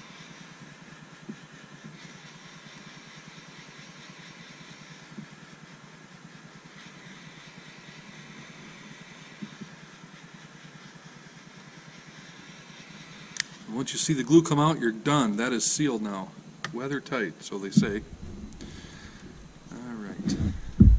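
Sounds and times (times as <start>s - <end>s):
heat gun motor hum and hiss: 0.0s - 20.9s.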